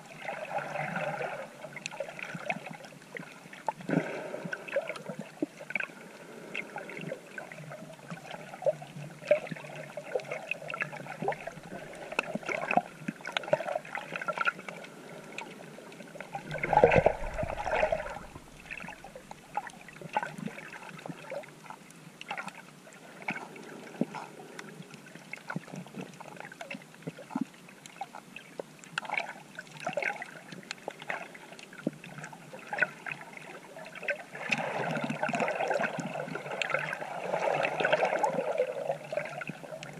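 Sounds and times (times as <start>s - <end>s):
water swishing and gurgling: 0.0s - 39.9s.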